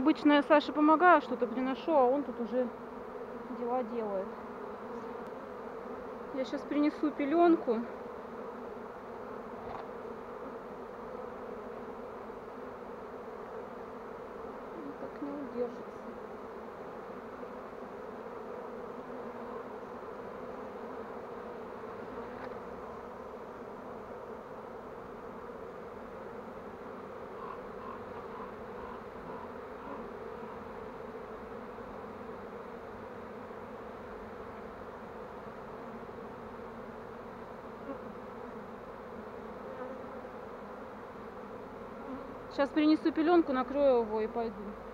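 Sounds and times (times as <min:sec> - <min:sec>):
honeybee swarm humming: 0:00.0 - 0:44.9.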